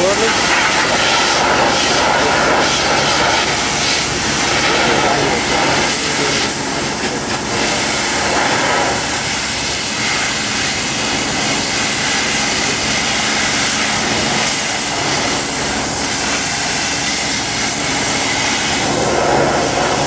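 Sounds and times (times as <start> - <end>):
pressure washer jet hitting metal: 0.0 - 20.0.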